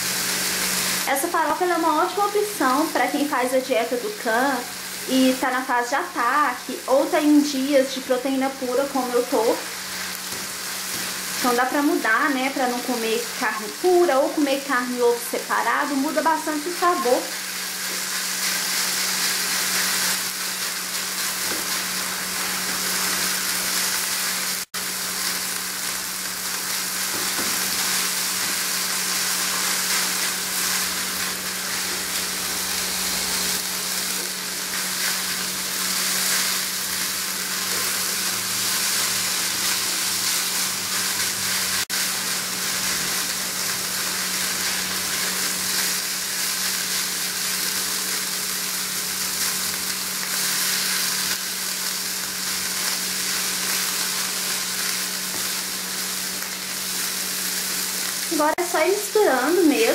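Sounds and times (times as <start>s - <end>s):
meat and eggs sizzling in a pan: 0.0s - 59.6s.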